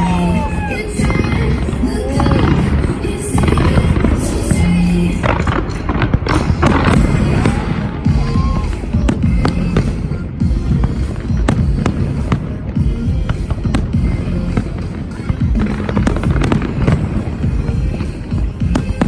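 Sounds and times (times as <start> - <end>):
fireworks bangs and crackles: 0.0 - 19.0
loud music: 0.0 - 19.0.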